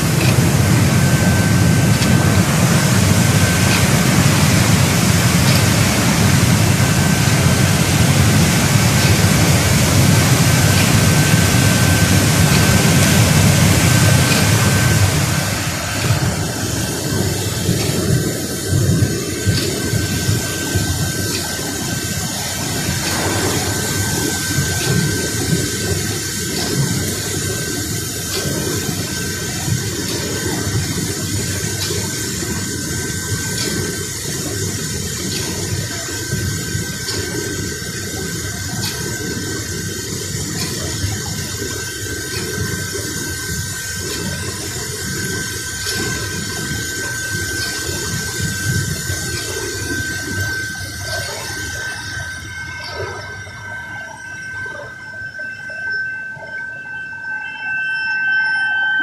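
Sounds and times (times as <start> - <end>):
water churning and splashing: 0.0 - 53.6
machine high whine: 0.0 - 59.0.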